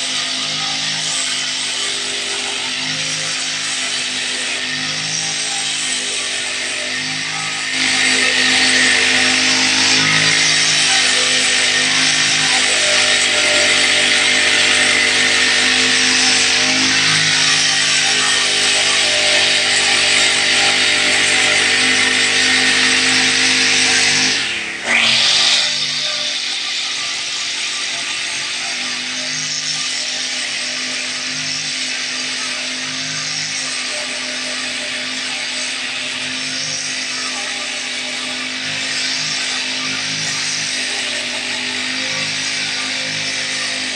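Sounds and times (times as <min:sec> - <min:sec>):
brush cutter engine running: 0:00.0 - 0:43.9
spinning head cutting grass: 0:00.0 - 0:43.9.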